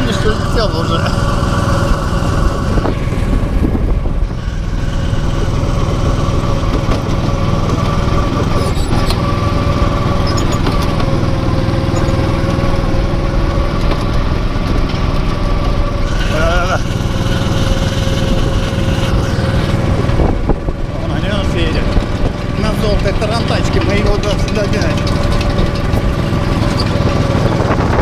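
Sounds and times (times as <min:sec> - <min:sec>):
go-kart engine running: 0:00.0 - 0:28.0.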